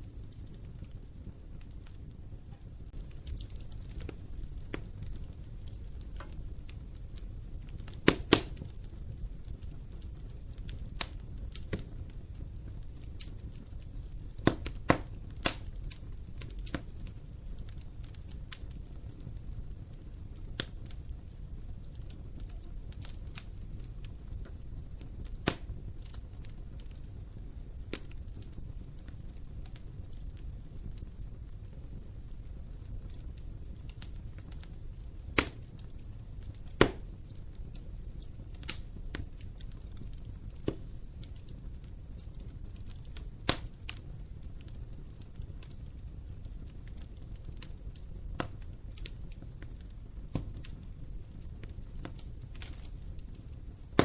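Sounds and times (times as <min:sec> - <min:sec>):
logs popping and crackling: 0:00.0 - 0:54.0
wood fire rumbling: 0:00.0 - 0:54.0.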